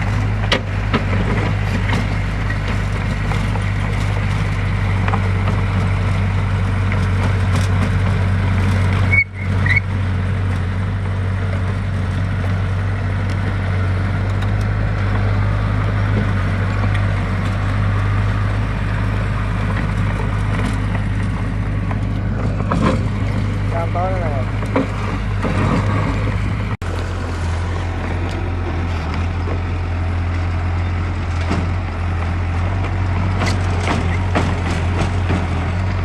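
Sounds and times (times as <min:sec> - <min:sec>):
heavy machinery diesel engine: 0:00.0 - 0:36.0.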